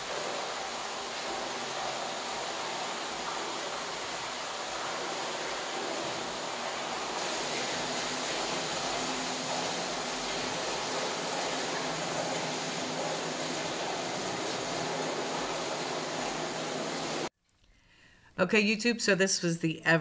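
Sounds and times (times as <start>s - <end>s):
water flowing through hose: 0.0s - 17.3s.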